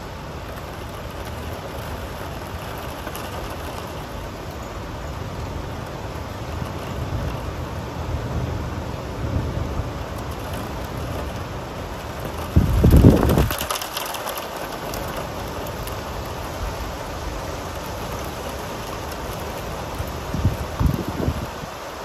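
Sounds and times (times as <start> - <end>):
steady rain on window: 0.0 - 22.0.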